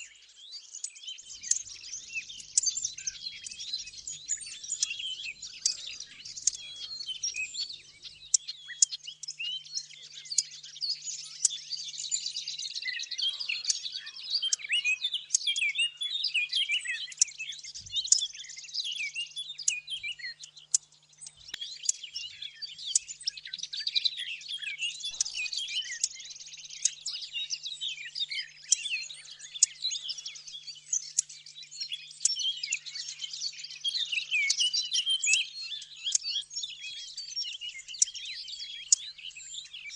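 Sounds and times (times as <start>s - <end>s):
songbirds warbling and chirping: 0.0s - 39.9s.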